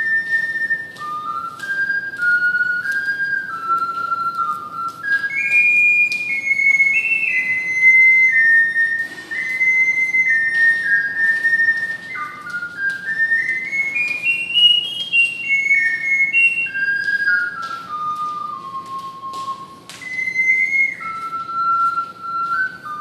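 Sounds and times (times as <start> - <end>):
ocarina melody: 0.0 - 23.0.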